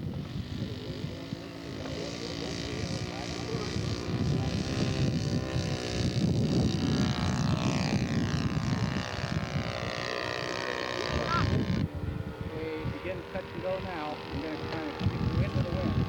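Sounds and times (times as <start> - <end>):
model airplane engine: 0.0 - 16.0.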